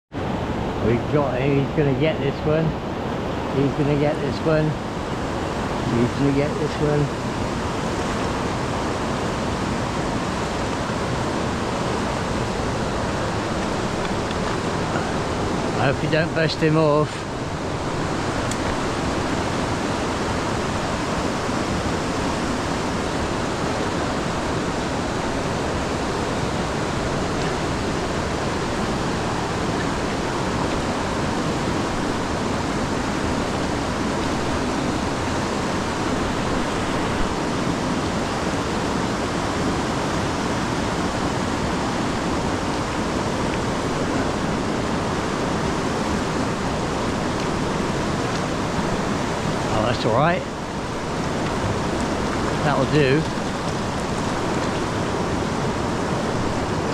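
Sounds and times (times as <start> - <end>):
river water rushing through rapids: 0.2 - 56.9.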